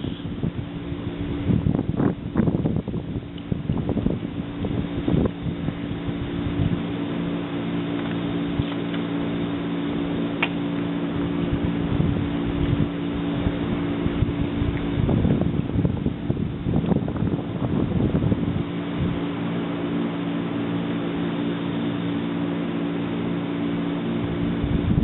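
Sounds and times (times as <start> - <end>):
wind on microphone: 0.0 - 10.2, 11.0 - 21.0, 23.8 - 25.0
electric train humming: 0.0 - 25.0.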